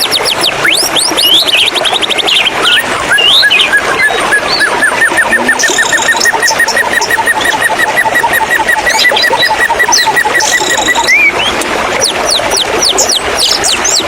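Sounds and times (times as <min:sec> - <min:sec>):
bird song: 0:00.0 - 0:14.0
running water: 0:00.0 - 0:14.0.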